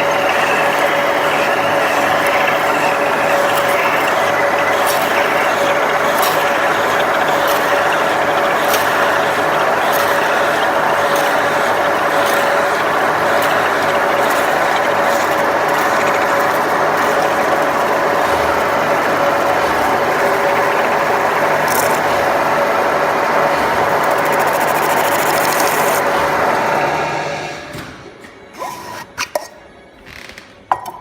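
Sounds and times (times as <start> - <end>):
metal-spinning lathe rattling: 0.0 - 27.1.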